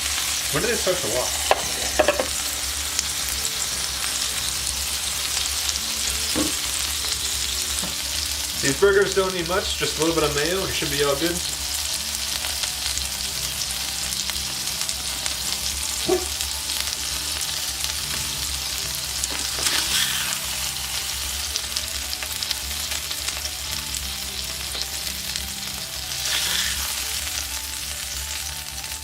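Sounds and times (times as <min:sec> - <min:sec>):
beef patties sizzling: 0:00.0 - 0:29.0.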